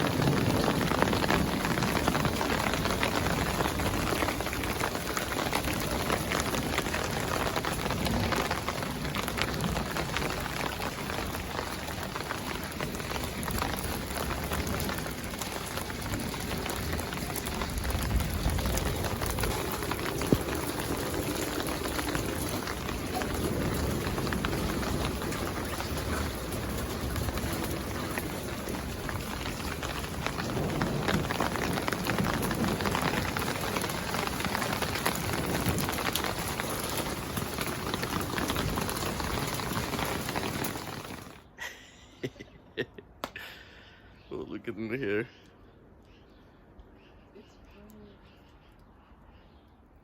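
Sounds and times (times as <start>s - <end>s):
rain pattering on surfaces: 0.0s - 41.6s.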